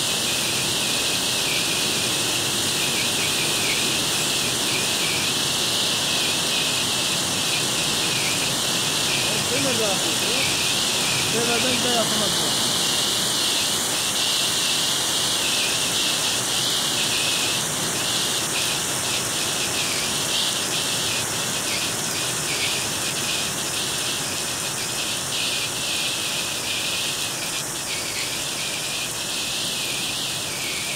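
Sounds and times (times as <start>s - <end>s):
heavy rain and hail hissing: 0.0s - 30.9s.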